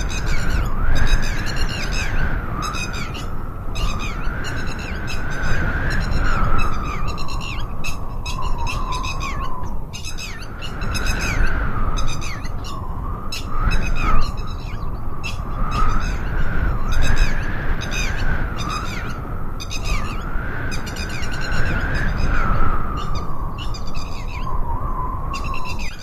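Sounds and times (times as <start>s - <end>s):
birds squawking: 0.0s - 24.6s, 25.3s - 26.0s.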